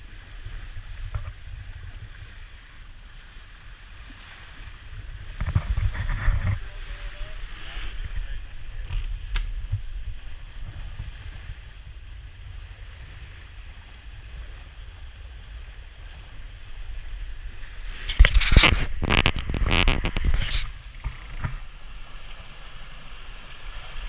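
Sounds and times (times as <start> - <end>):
wind buffeting microphone: 0.0 - 22.0
water hissing along hull: 0.0 - 24.0.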